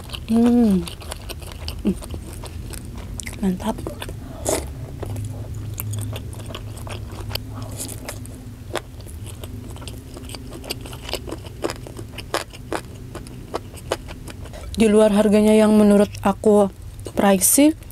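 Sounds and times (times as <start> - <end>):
person chewing: 0.0 - 17.2.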